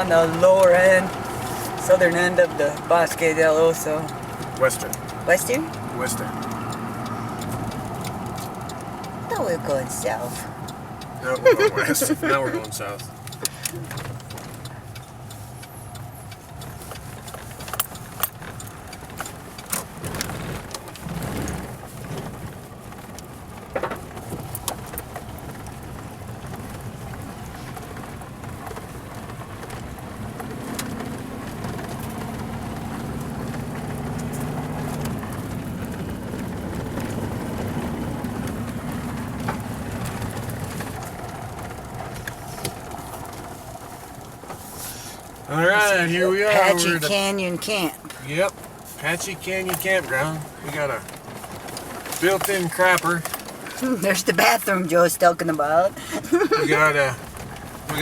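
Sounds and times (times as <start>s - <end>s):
engine and road hum: 0.0s - 58.0s.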